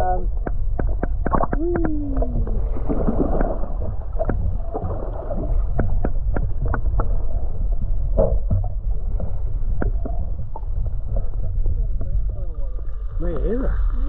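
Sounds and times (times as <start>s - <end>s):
water sloshing against boat hull: 0.0s - 13.1s
steady low rumble: 0.0s - 14.0s.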